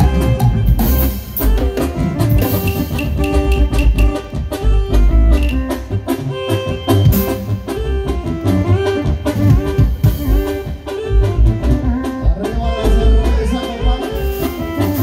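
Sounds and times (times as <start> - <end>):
live band playing dance music: 0.0 - 15.0.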